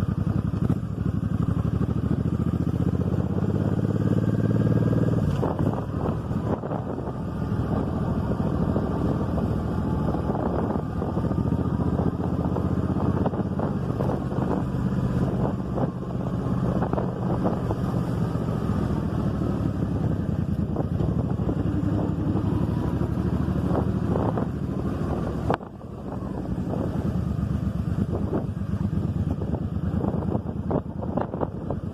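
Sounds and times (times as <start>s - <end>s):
motorcycle engine running: 0.0s - 31.9s
wind buffeting microphone: 2.8s - 31.9s.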